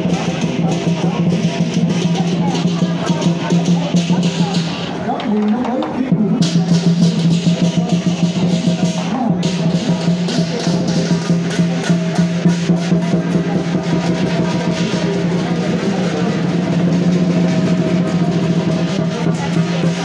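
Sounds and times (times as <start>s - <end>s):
fast dense drumming: 0.0s - 4.9s, 5.8s - 20.0s
cymbals washing: 0.0s - 5.0s, 6.3s - 20.0s.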